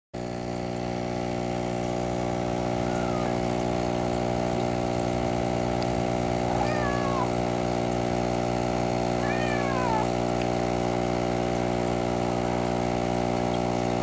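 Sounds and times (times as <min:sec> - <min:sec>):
aquarium equipment hum: 0:00.2 - 0:14.0.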